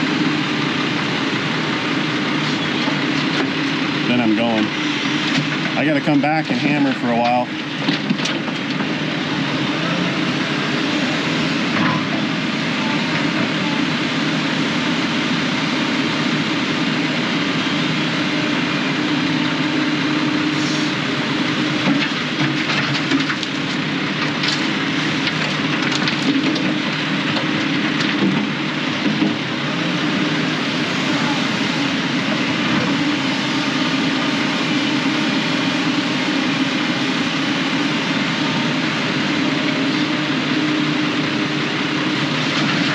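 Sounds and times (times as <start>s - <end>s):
road and cab noise: 0.0s - 42.9s
truck engine drone: 0.0s - 42.9s.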